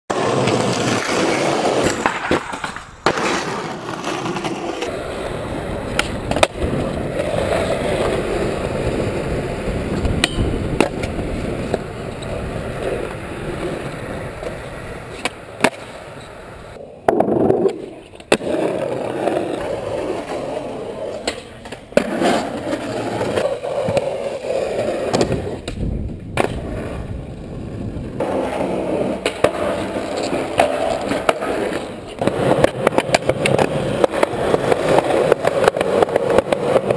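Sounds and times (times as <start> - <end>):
skateboard clacking: 0.1 - 36.9
skateboard wheels rolling: 0.1 - 36.9.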